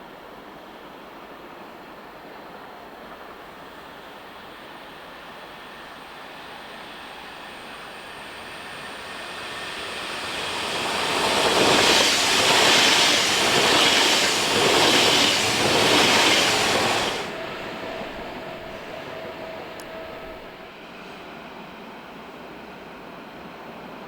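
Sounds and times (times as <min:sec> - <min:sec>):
train passing on rails: 0:00.0 - 0:24.0.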